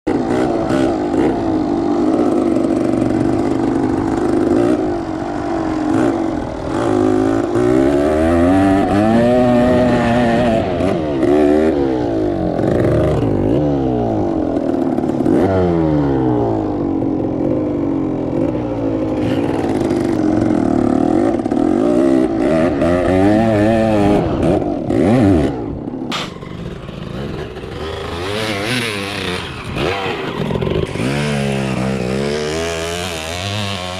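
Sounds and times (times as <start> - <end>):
engines revving: 0.1 - 33.9.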